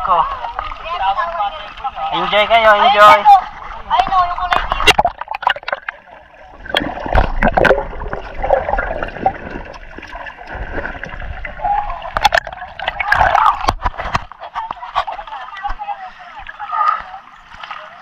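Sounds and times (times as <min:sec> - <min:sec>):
water gurgling and sloshing: 0:00.0 - 0:18.0
water splashes: 0:00.0 - 0:18.0.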